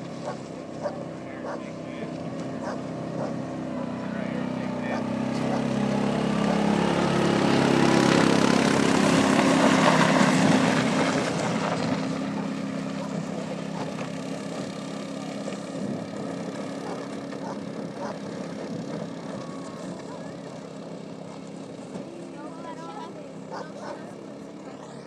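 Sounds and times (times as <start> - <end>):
utility vehicle engine passing: 0.0 - 25.0.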